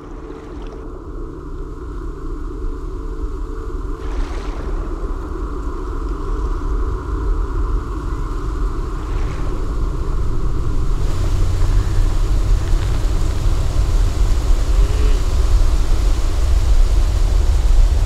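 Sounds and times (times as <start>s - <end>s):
low rumbling drone with hiss: 0.0s - 18.0s.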